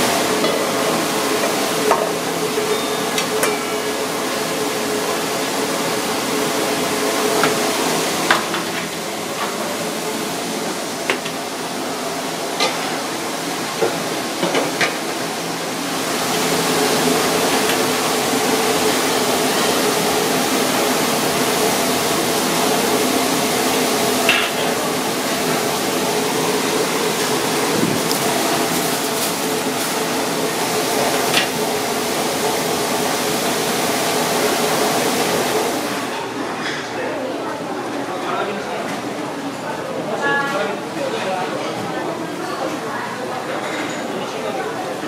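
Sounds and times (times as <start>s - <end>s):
kitchen hum and hiss: 0.0s - 45.0s.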